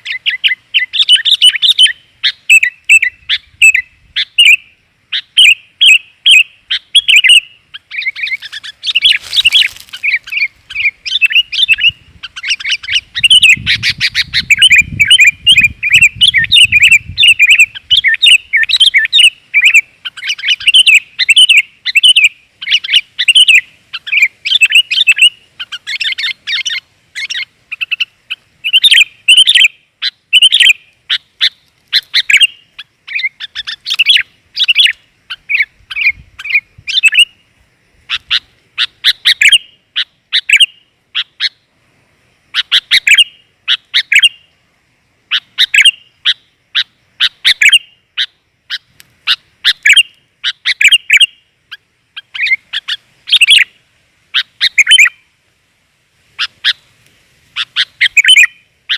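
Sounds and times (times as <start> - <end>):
bird chattering chirps: 0.0 - 37.4, 38.1 - 41.6, 42.5 - 44.4, 45.3 - 53.7, 54.3 - 55.2, 57.6 - 58.9.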